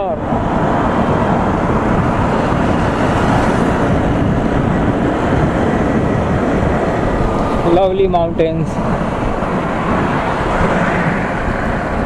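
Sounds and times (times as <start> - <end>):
motorcycle engine cruising: 0.0 - 12.0
wind on microphone: 0.0 - 12.0.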